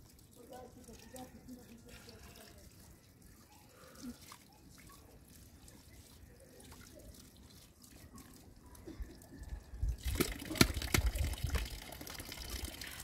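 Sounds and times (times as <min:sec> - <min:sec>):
water dripping: 0:00.0 - 0:13.0.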